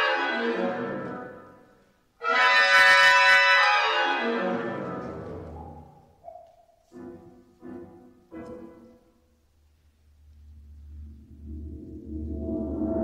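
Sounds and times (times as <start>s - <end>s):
piano and chamber ensemble: 0.0s - 13.0s.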